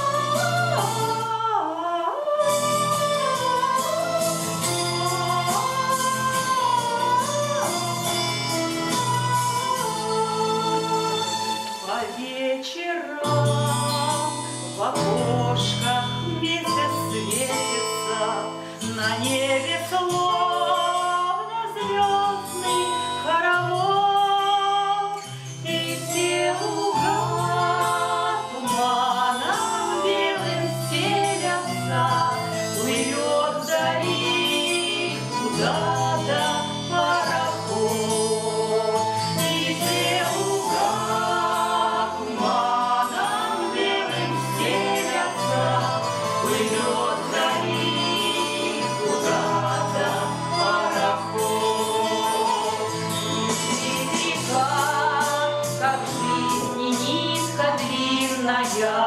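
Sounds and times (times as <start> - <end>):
vocal group singing: 0.0 - 59.0
instrumental accompaniment: 2.3 - 12.3, 13.2 - 59.0.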